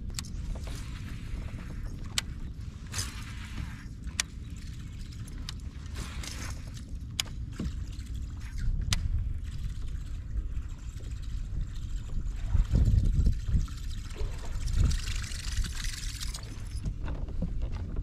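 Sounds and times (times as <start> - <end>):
rumble of wind and water: 0.0 - 18.0.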